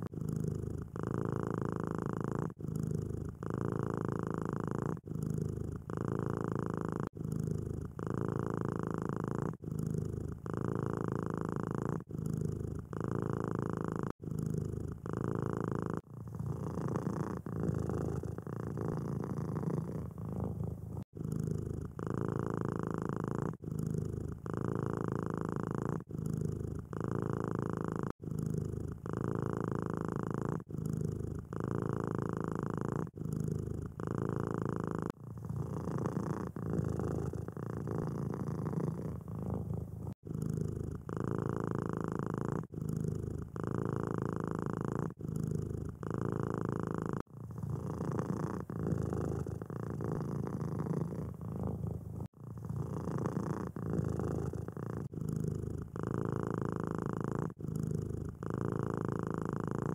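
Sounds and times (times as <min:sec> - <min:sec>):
cats purring: 0:00.0 - 0:59.9.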